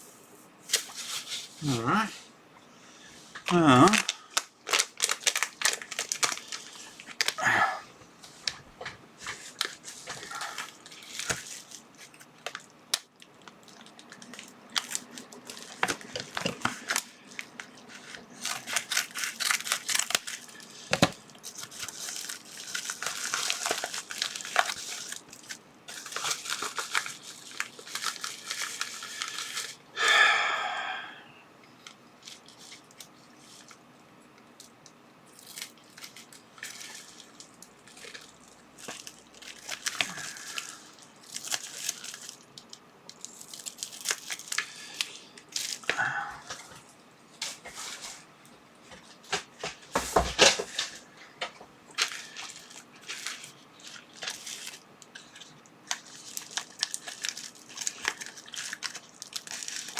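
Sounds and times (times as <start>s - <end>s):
plastic packaging crinkling and tearing: 3.4s - 7.5s, 8.2s - 29.8s, 31.8s - 33.8s, 34.4s - 46.8s, 51.9s - 59.9s.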